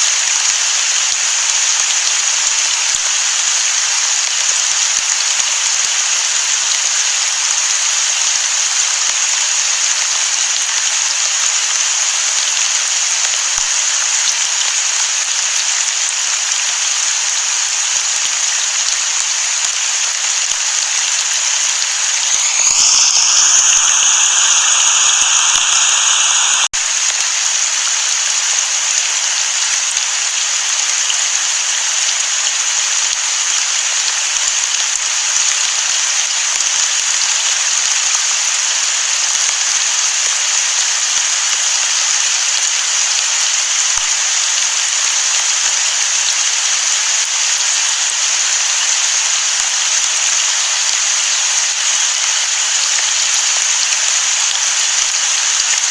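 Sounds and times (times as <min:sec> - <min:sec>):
steady downpour of rain: 0:00.0 - 0:55.9.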